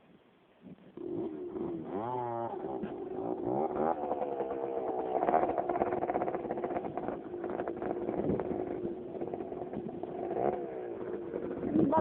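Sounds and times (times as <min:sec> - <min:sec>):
dirt bike engine running: 0:01.0 - 0:12.0.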